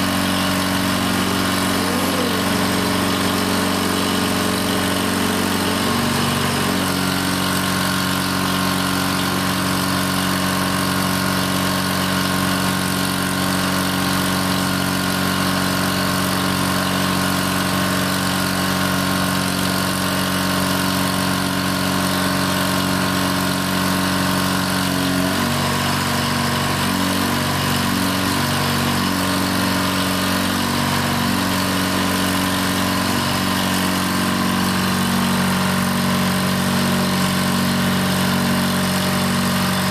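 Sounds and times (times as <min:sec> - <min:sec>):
hydraulic pump whining: 0:00.0 - 0:39.9.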